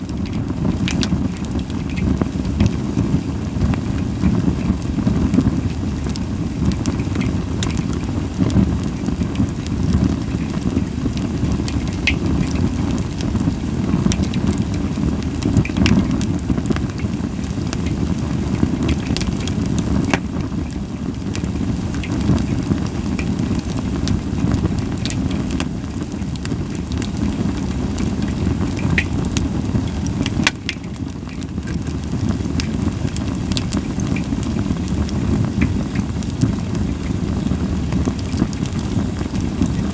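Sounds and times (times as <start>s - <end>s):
firewood crackling and popping: 0.0s - 39.9s
low rumble of flame: 0.0s - 39.9s
fire hissing: 0.1s - 39.9s.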